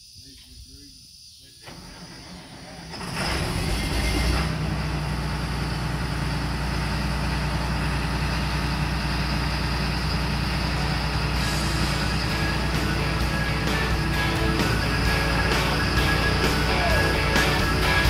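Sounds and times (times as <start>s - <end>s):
diesel engine humming: 1.7s - 18.0s.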